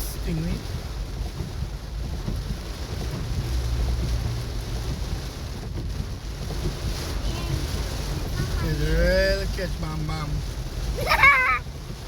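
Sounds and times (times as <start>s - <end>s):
engine and road rumble: 0.0s - 12.0s
rain hissing on car: 0.0s - 12.0s.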